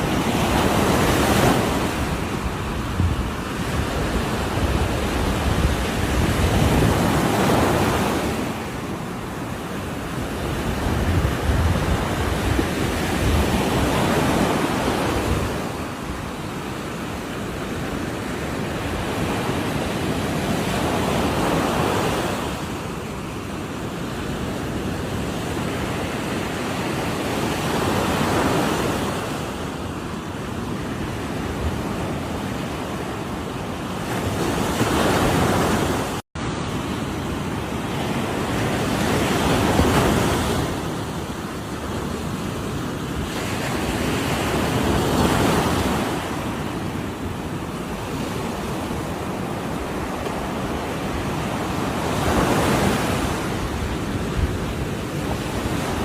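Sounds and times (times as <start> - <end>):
ocean waves crashing: 0.0 - 56.0.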